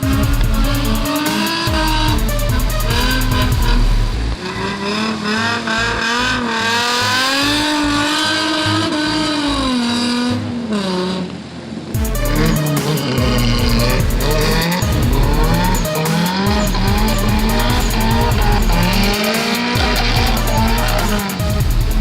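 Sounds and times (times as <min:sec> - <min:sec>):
music with bass beat: 0:00.0 - 0:09.7, 0:12.0 - 0:22.0
car engine revving: 0:00.0 - 0:22.0.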